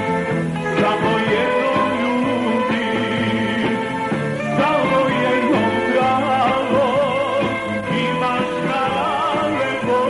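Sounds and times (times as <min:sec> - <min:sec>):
live band playing folk-pop: 0:00.0 - 0:10.0.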